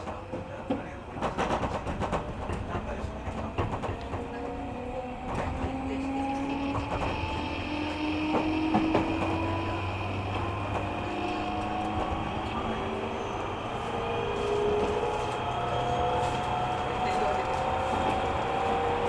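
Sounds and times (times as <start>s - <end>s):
low train rumble: 0.0s - 19.0s
train traction motor whine: 2.4s - 19.0s.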